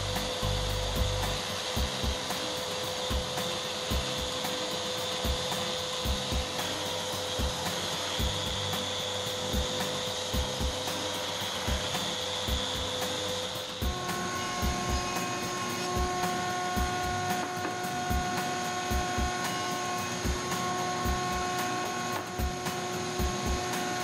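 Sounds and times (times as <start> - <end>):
electric sander whine: 0.0 - 24.0.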